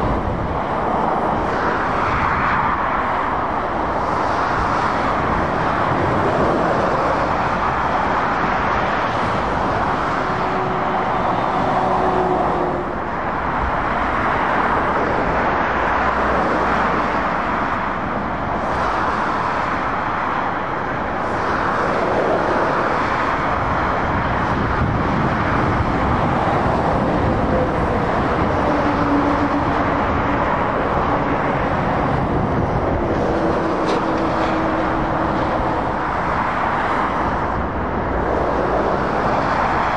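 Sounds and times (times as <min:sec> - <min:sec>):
traffic passing at speed: 0:00.0 - 0:39.9.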